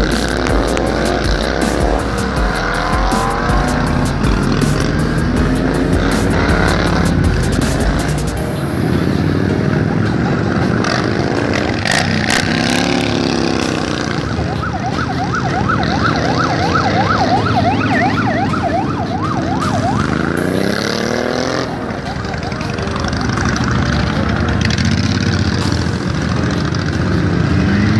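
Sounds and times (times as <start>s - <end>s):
warbling siren: 0.0s - 25.9s
motorcycles passing: 0.0s - 27.9s.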